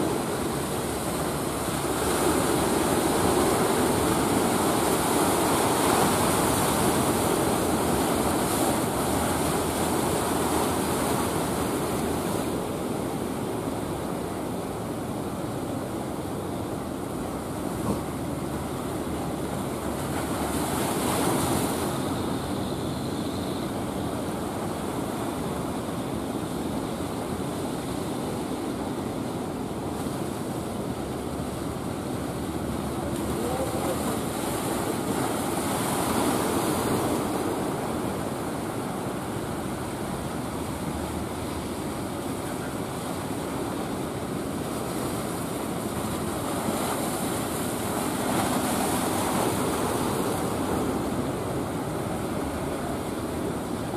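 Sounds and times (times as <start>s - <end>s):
sea waves washing: 0.0s - 53.9s.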